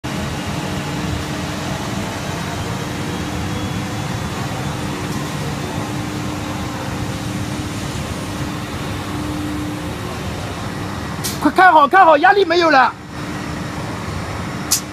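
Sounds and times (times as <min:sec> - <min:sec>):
machine hum: 0:00.0 - 0:14.9
machinery noise: 0:00.0 - 0:14.9.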